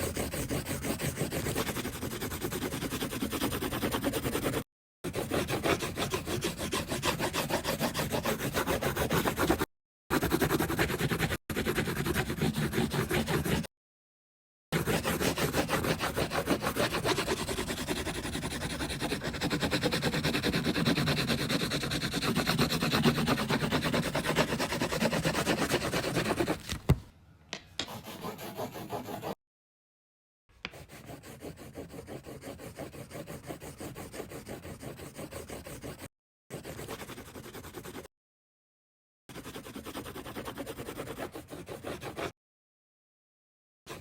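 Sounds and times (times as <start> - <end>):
colouring tool scribbling on paper: 0.0 - 13.7, 14.8 - 26.7, 27.9 - 29.4, 30.7 - 38.1, 39.3 - 42.3.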